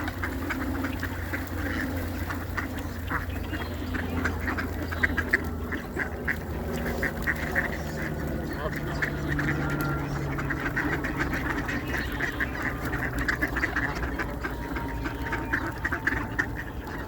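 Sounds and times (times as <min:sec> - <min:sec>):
ducks quacking: 0:00.0 - 0:17.0
low steady rumble: 0:00.0 - 0:17.0.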